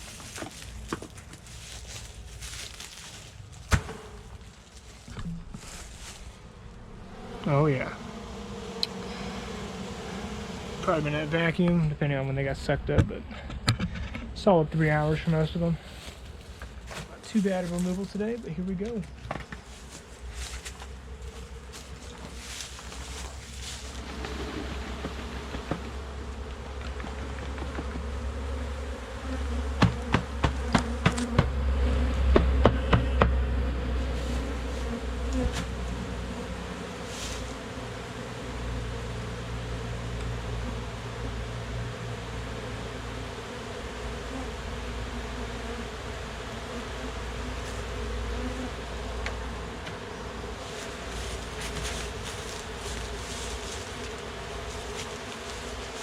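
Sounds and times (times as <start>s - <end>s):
honeybees buzzing: 0.0s - 12.9s, 14.4s - 56.0s.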